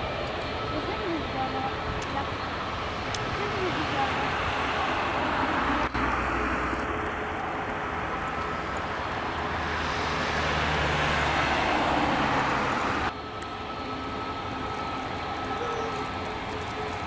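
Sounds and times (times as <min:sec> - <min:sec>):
jet engine roaring on takeoff: 0:00.0 - 0:17.0.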